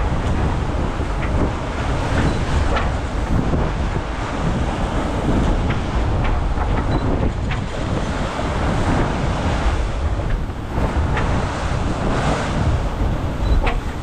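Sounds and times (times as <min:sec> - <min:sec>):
water rushing past hull: 0:00.0 - 0:14.0
wind buffeting microphone: 0:00.0 - 0:14.0.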